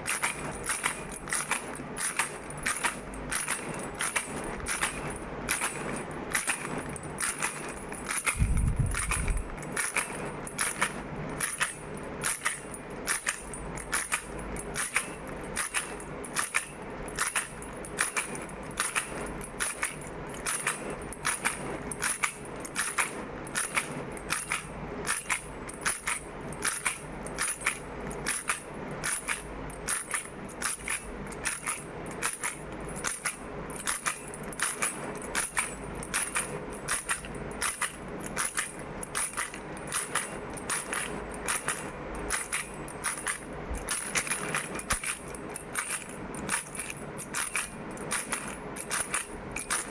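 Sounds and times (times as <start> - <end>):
baby rattle shaking: 0.0 - 49.9.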